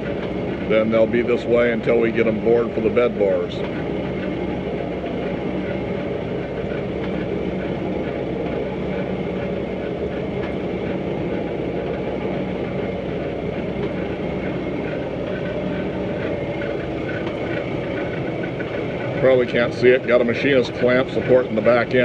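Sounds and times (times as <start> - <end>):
metal planer humming: 0.0 - 22.0.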